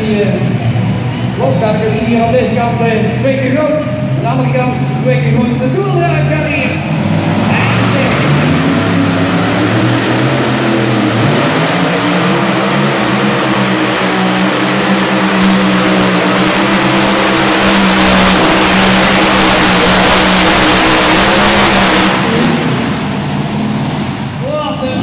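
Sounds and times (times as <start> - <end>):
engine at full throttle: 0.0 - 25.0.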